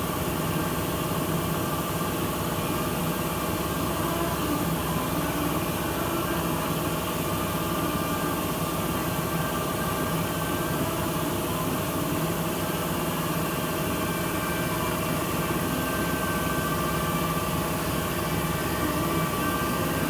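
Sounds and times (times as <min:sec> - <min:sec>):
motor humming with whining tones: 0:00.0 - 0:20.0.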